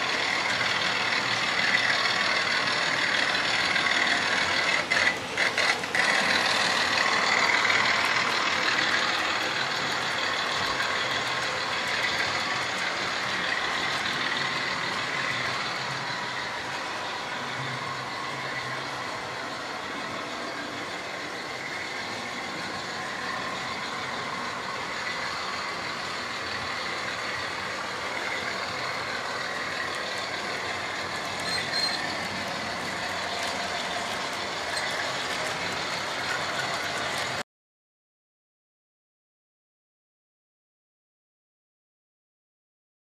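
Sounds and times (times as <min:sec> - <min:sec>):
model train motors humming: 0:00.0 - 0:37.4
wheels rattling on rails: 0:00.0 - 0:37.4.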